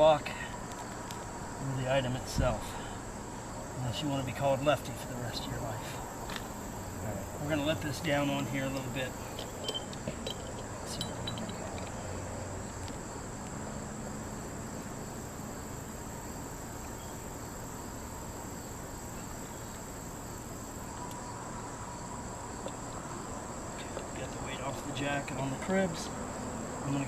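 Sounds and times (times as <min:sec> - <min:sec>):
high-pitched insect drone: 0:02.7 - 0:27.0.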